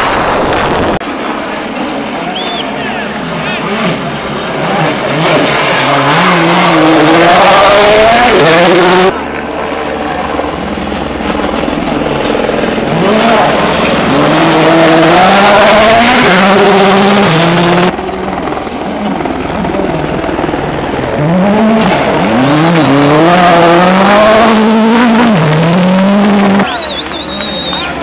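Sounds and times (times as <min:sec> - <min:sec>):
rally car engines at full throttle: 0:00.0 - 0:28.0.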